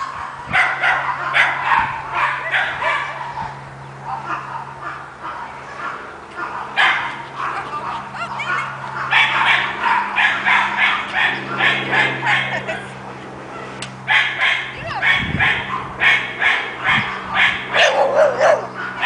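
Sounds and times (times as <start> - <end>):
dog barking: 0.0 - 3.4, 4.0 - 12.5, 14.1 - 19.0
steady low hum: 0.0 - 19.0.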